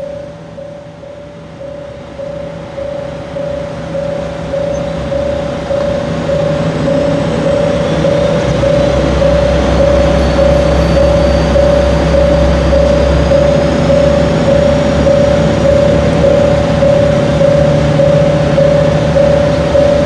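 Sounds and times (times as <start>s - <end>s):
diesel railcar engine drone: 0.0s - 20.0s
electronic warning tone pulsing: 0.0s - 20.0s.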